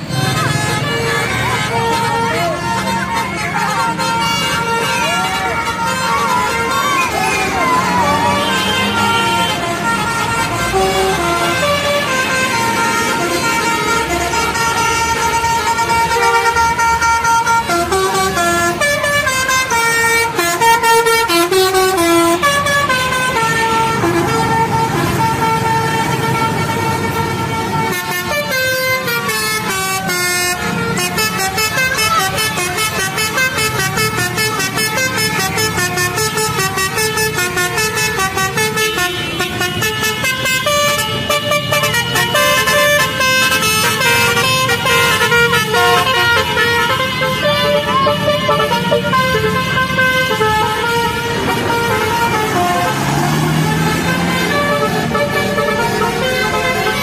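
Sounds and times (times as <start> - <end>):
multi-tone bus horn melody: 0.0 - 57.0
traffic noise: 0.0 - 57.0.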